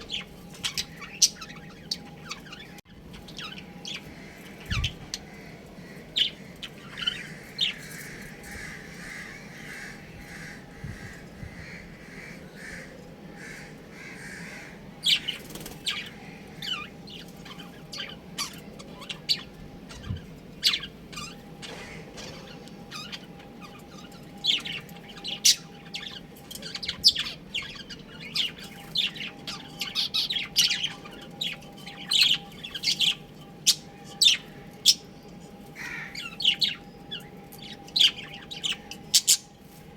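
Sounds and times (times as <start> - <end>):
budgerigars chattering: 0.0 - 35.1, 35.8 - 39.5.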